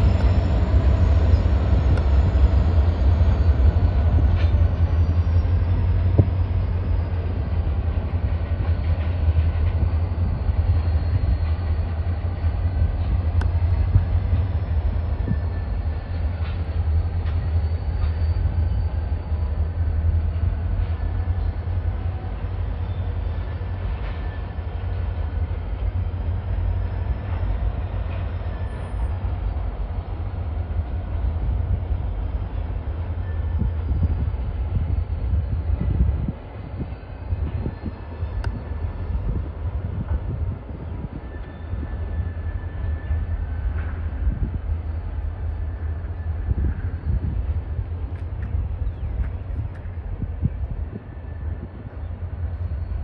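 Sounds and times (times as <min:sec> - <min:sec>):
diesel locomotives rumbling: 0:00.0 - 0:53.0.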